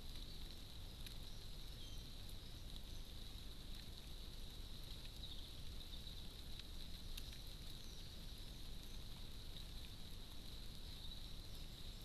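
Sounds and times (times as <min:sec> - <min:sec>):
birds pecking soft ticks: 0:00.0 - 0:12.0
faint steady high hiss: 0:00.0 - 0:12.0.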